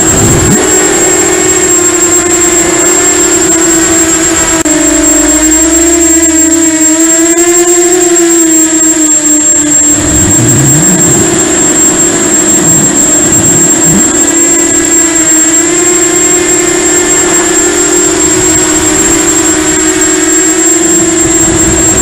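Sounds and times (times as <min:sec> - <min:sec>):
drone propellers droning: 0:00.0 - 0:22.0
high whine: 0:00.0 - 0:22.0.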